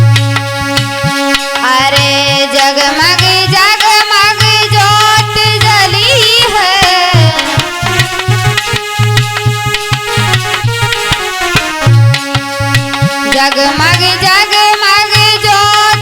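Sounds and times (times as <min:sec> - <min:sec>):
hand drum rhythm: 0:00.0 - 0:16.0
ornamented lead melody: 0:00.0 - 0:16.0.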